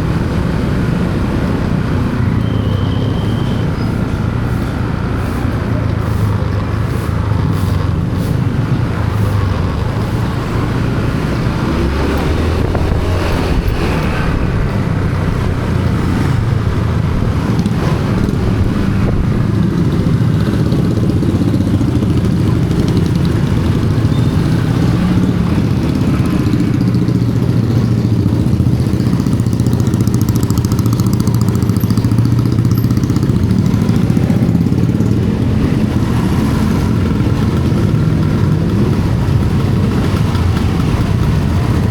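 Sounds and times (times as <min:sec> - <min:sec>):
motorcycle engine rumble: 0:00.0 - 0:41.9.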